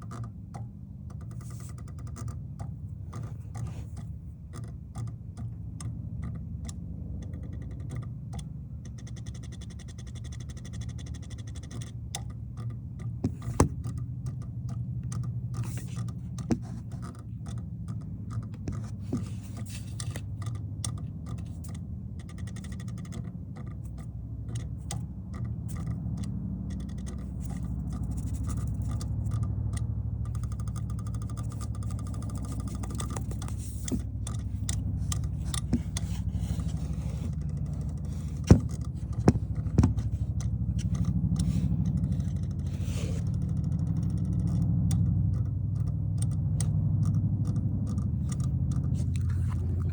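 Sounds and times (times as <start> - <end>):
repeated clicking from car engine: 0.0 - 49.9
steady low hum: 0.0 - 49.9.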